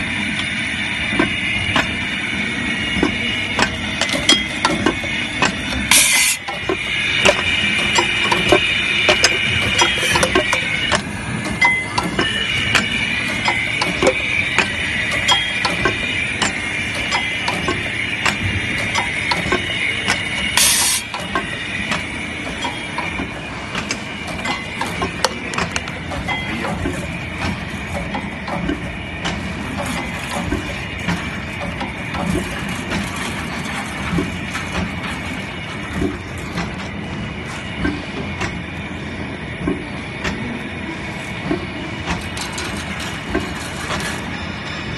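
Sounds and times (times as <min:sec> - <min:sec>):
machine clicks and knocks: 0:03.0 - 0:36.9, 0:37.8 - 0:38.6, 0:39.6 - 0:40.4, 0:41.4 - 0:44.2.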